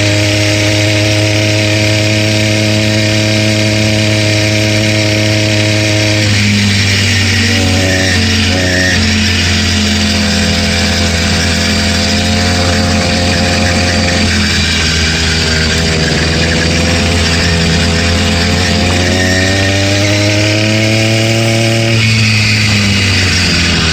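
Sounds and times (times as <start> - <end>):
engine knocking: 0.0 - 23.9
two-stroke engine running: 0.0 - 23.9.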